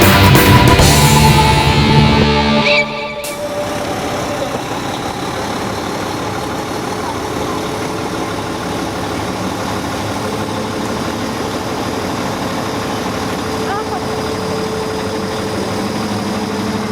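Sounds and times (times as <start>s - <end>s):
fire engine idling: 0.0s - 16.9s.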